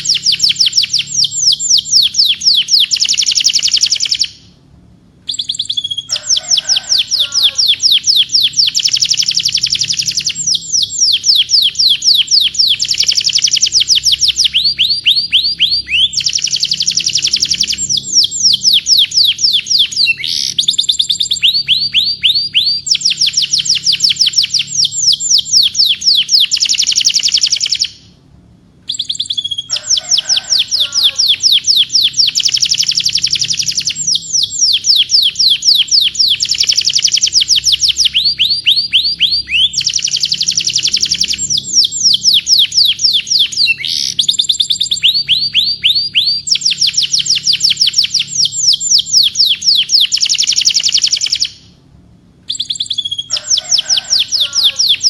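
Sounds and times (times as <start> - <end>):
canary singing trills: 0.0 - 4.6, 5.2 - 28.2, 28.8 - 51.8, 52.5 - 55.0.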